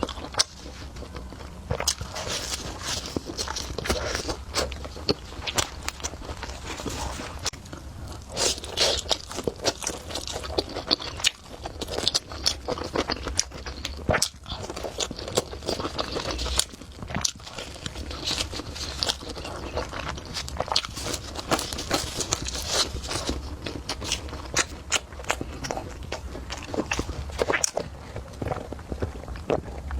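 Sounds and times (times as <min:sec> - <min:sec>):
crunchy chewing: 0:00.0 - 0:29.9.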